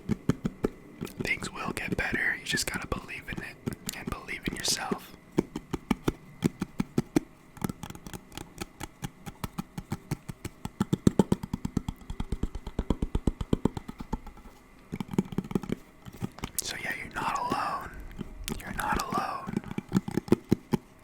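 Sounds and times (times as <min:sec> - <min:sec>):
rapid tapping on hard object: 0:00.0 - 0:16.6, 0:17.2 - 0:21.0.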